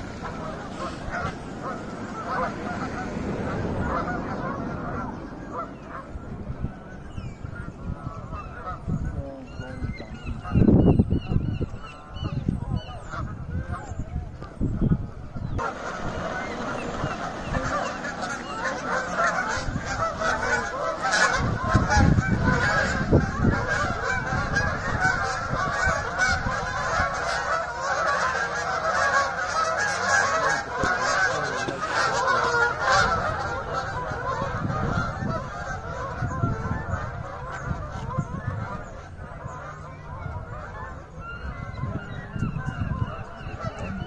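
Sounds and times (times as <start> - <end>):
geese honking: 0.0 - 44.0.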